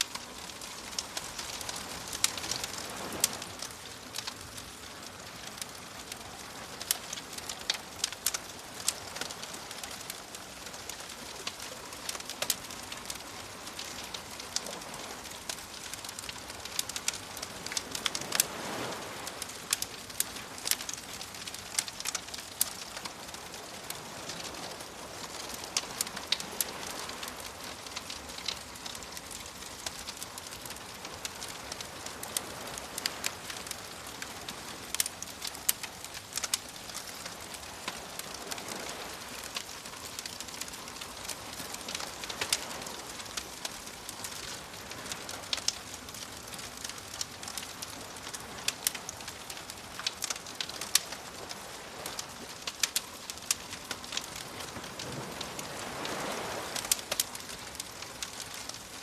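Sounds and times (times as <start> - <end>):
waves washing: 0.0 - 59.0
wood fire crackling: 0.0 - 59.0.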